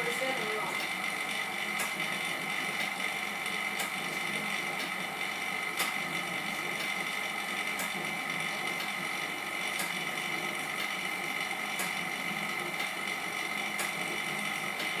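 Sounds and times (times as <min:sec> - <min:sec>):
steady machine whine: 0:00.0 - 0:15.0.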